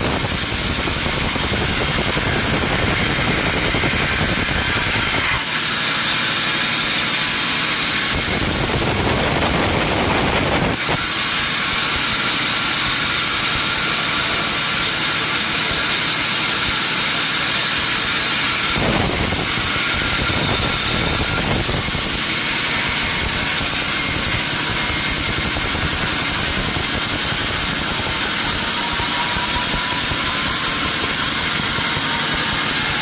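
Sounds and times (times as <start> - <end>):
sawmill machinery hissing: 0.0 - 33.0.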